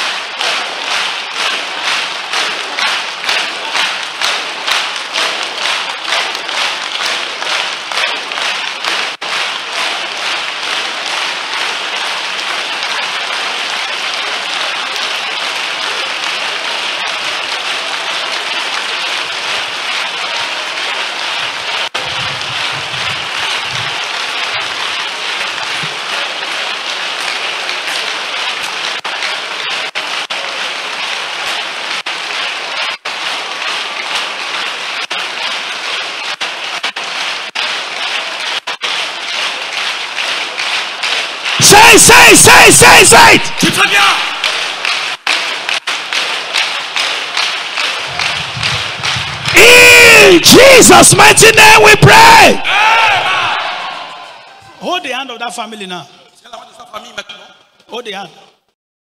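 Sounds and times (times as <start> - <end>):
congregation clapping: 0.0 - 58.7.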